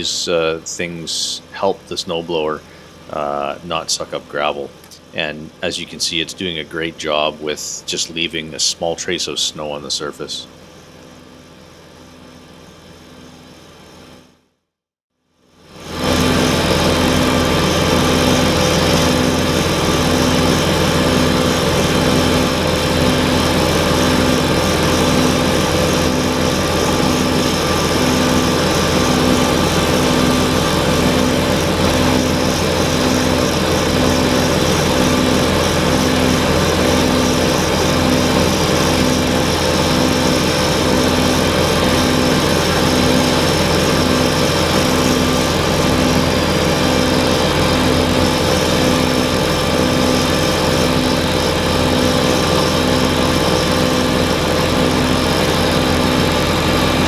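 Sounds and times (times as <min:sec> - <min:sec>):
tractor diesel engine running: 0:00.0 - 0:11.8, 0:16.0 - 0:57.0
snowblower: 0:00.0 - 0:14.4, 0:15.5 - 0:57.0.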